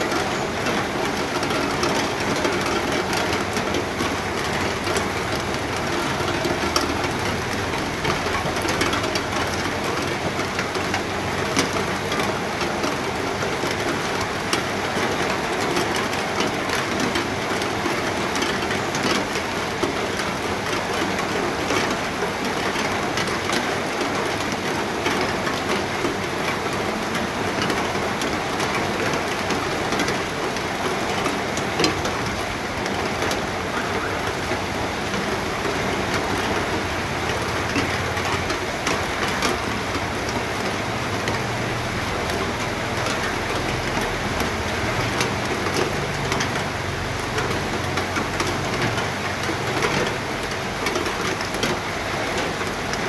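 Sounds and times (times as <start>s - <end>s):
rain drop ticks: 0.0s - 53.0s
steady rain falling: 0.0s - 53.0s.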